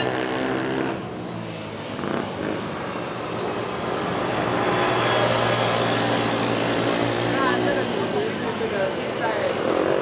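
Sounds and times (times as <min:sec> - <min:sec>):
quad engines buzzing: 0:00.0 - 0:10.0.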